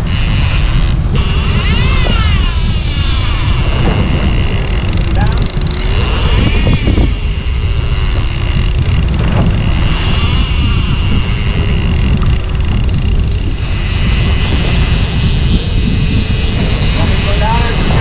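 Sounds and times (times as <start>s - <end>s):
boat engine rumbling: 0.0s - 18.0s
water noise: 0.0s - 18.0s
wind: 0.0s - 18.0s.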